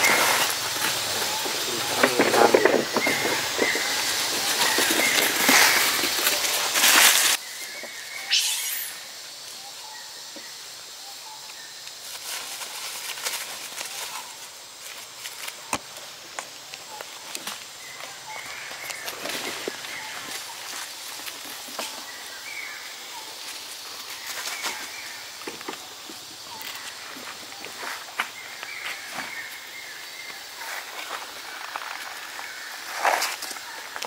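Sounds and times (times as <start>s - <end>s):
rustling in dry leaves: 0.0s - 10.0s, 11.4s - 34.0s
forest background: 0.0s - 34.0s.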